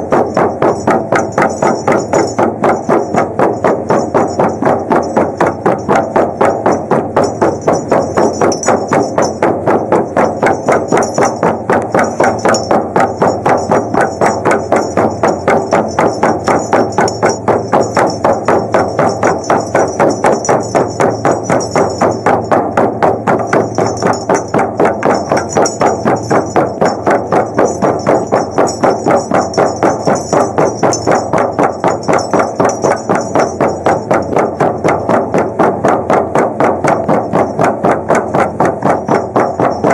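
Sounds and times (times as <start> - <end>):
frame drums beaten: 0.0 - 39.9.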